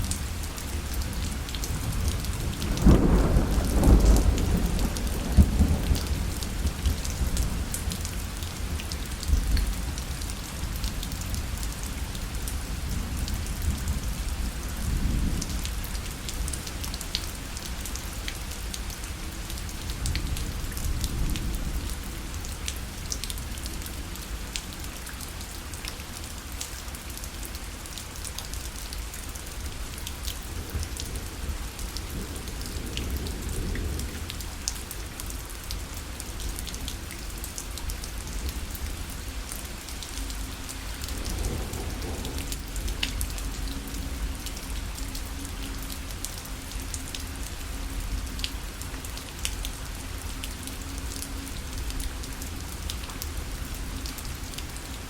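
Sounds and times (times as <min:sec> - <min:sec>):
rain pattering on a parasol: 0:00.0 - 0:55.0.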